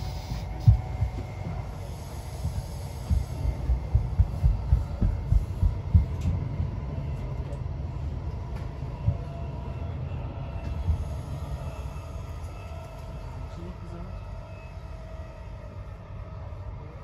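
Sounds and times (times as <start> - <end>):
freight train passing alongside: 0.0 - 17.0
train rumbling from inside: 0.0 - 17.0.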